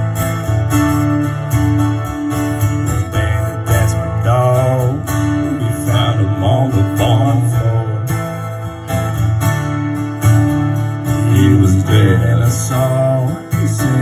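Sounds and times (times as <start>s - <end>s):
acoustic guitar playing: 0.0s - 14.0s
low bass notes: 0.0s - 14.0s.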